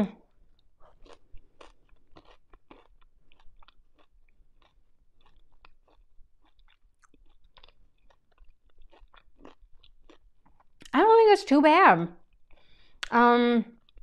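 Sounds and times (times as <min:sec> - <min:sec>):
person chewing crispy food: 0:00.3 - 0:10.9, 0:12.2 - 0:13.1, 0:13.8 - 0:14.0.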